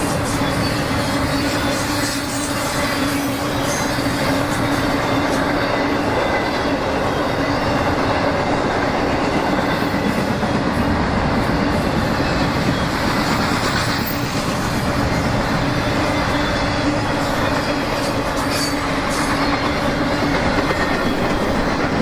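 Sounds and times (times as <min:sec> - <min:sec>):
freight train rumbling and rattling: 0:00.0 - 0:22.0.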